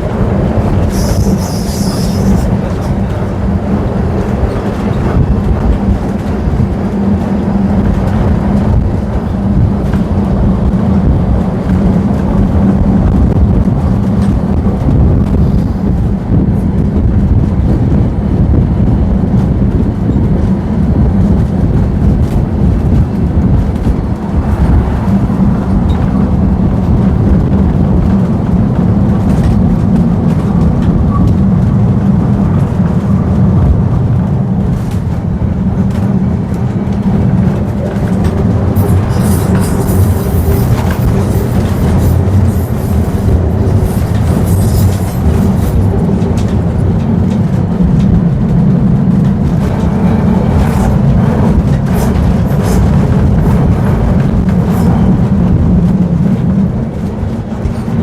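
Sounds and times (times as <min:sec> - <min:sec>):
tram rumbling on rails: 0:00.0 - 0:58.0.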